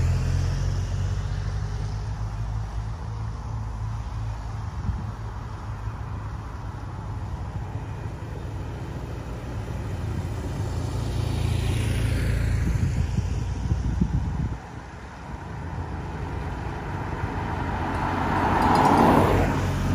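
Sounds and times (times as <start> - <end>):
motorcycle passing by: 0.0 - 19.9.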